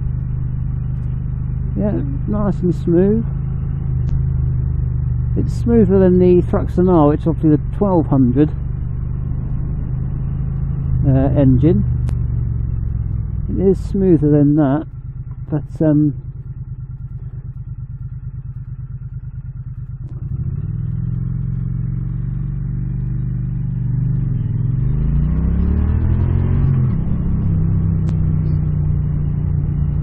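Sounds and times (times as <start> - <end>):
motorcycle engine: 0.0 - 30.0.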